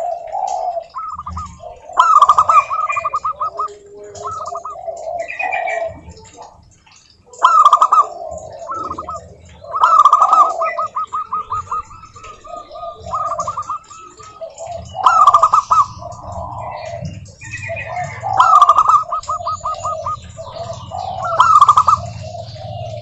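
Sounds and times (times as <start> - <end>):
doves cooing: 0.0 - 23.0.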